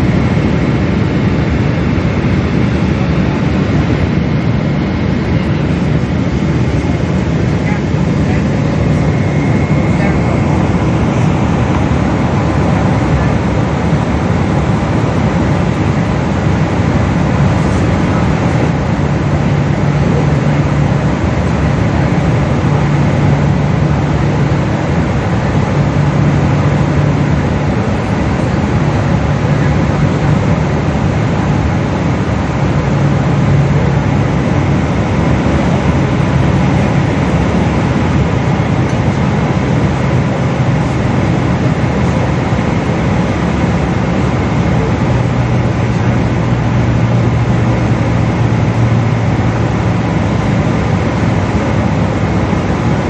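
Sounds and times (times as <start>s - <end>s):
jet engine cabin drone: 0.0s - 53.0s.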